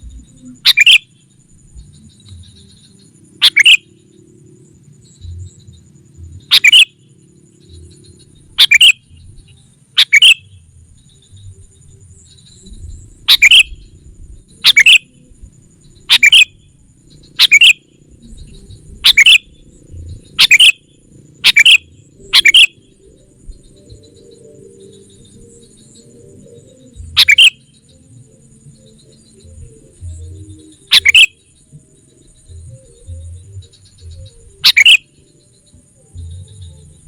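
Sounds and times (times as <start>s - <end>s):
bulbul double-note calls: 0.0s - 4.2s, 5.0s - 37.0s.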